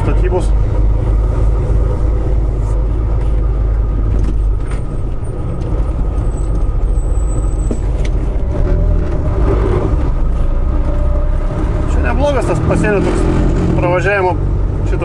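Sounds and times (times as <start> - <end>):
road noise: 0.0 - 15.0
truck diesel engine rumble: 0.0 - 15.0.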